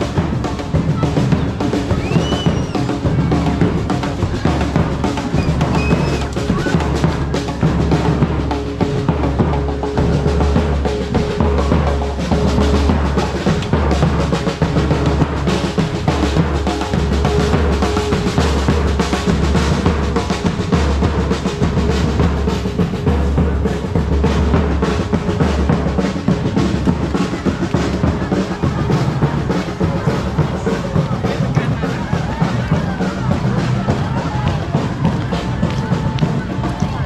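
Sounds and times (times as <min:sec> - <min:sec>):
drums playing a driving beat: 0:00.0 - 0:37.0.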